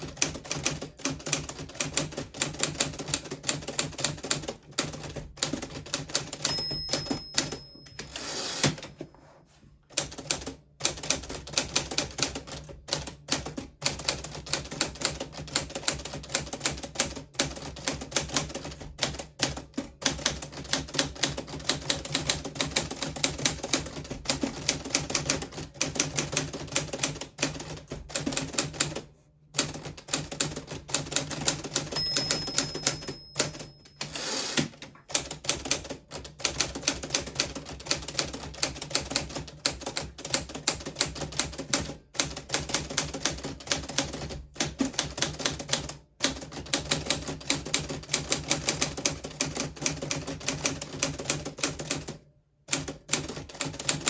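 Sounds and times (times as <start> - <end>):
manual typewriter typing: 0.0 - 8.9, 9.9 - 54.0.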